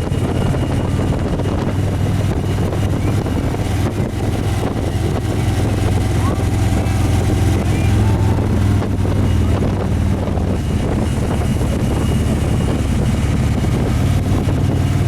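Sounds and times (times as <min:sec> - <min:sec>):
motorcycle engine drone: 0:00.0 - 0:15.0
wind noise on microphone: 0:00.0 - 0:15.0.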